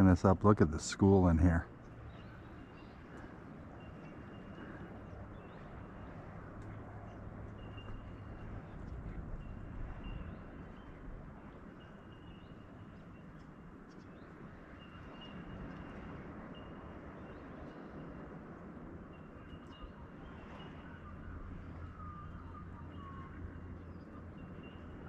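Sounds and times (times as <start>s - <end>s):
outdoor background noise by water: 0.0s - 25.0s.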